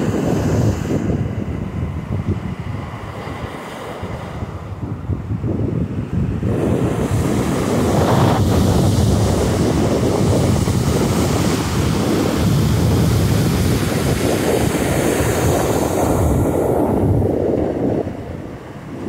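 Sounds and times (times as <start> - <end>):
waves washing up a beach: 0.0 - 19.0
wind buffeting microphone: 0.0 - 19.0.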